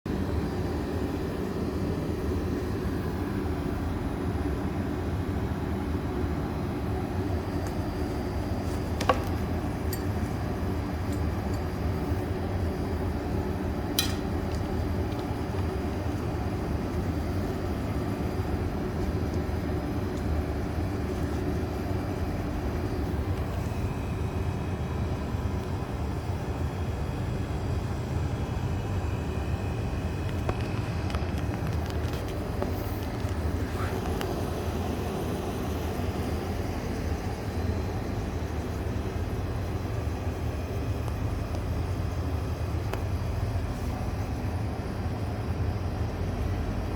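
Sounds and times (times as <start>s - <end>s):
steady low hum: 0.1s - 46.9s.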